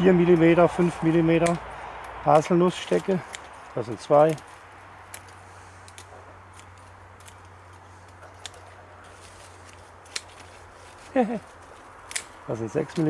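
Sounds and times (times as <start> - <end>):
scissors snipping sticks: 0.0 - 13.0.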